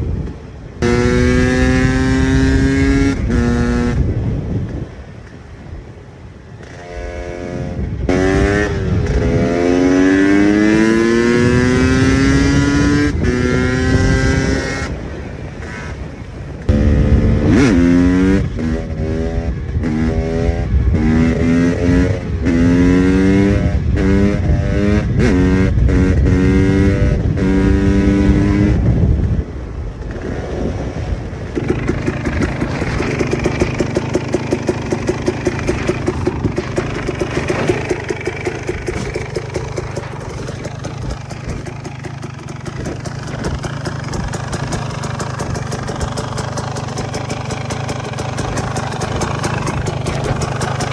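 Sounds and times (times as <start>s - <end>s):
two-stroke motorcycle engine revving: 0.0s - 50.9s.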